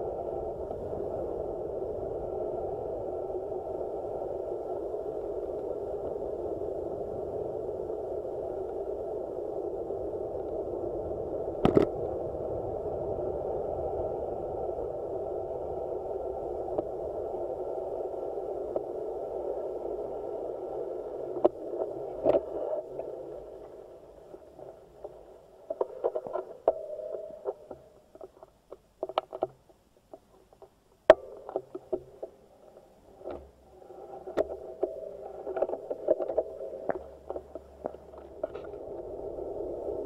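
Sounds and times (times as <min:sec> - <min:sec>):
wind and rolling rush: 0:00.0 - 0:28.3, 0:31.1 - 0:40.0.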